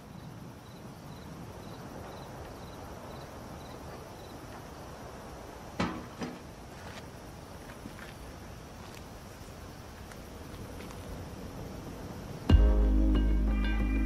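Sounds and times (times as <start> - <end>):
crickets chirping: 0.0 - 14.0
night ambience: 0.0 - 14.0.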